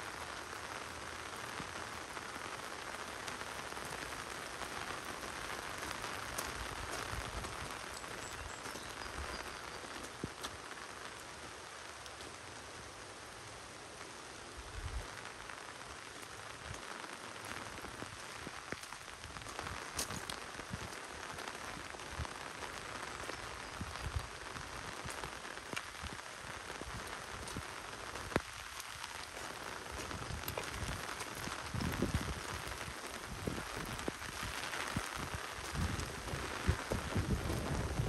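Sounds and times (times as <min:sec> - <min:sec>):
rain on leaves and gravel: 0:00.0 - 0:38.0.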